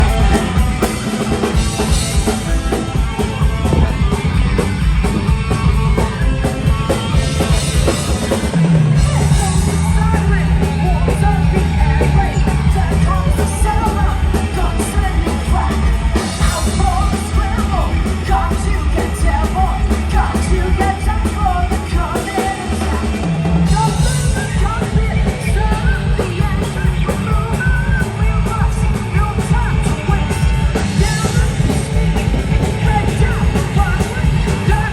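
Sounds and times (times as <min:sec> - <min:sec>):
heavy bass: 0:00.0 - 0:34.9
live rock band playing: 0:00.0 - 0:34.9
yelled singing: 0:00.0 - 0:34.9.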